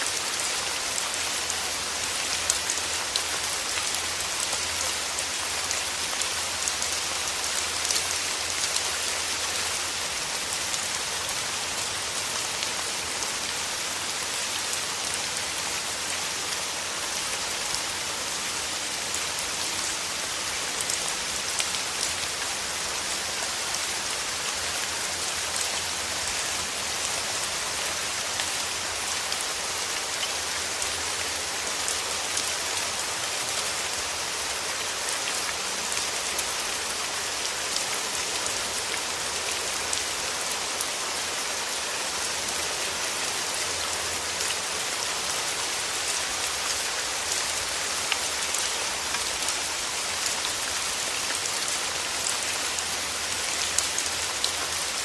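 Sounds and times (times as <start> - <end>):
steady rain on petals: 0.0 - 55.0.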